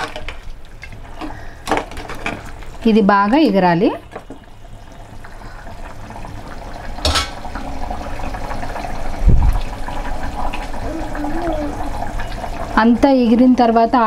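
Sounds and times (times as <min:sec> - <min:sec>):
curry bubbling in a pot: 0:00.0 - 0:14.0.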